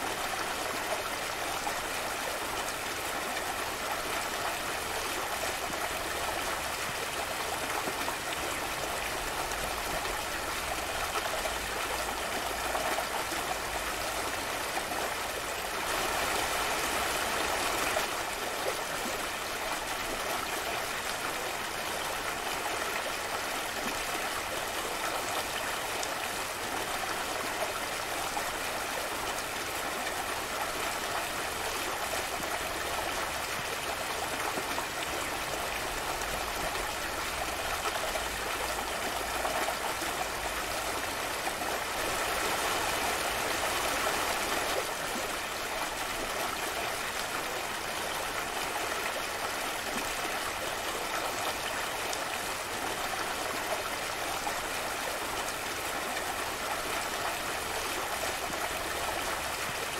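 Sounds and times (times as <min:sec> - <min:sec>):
stream flowing over boulders: 0:00.0 - 0:59.9.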